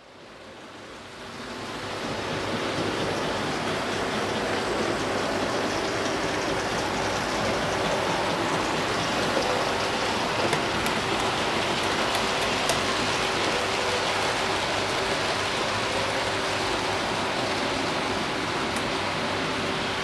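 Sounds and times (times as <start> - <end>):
model train motor whirring: 1.1 - 20.0.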